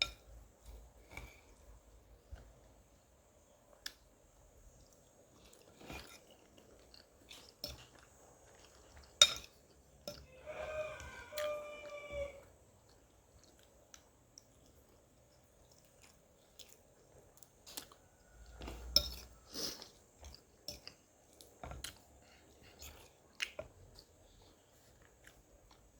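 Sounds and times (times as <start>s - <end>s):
chewing: 4.7s - 25.9s.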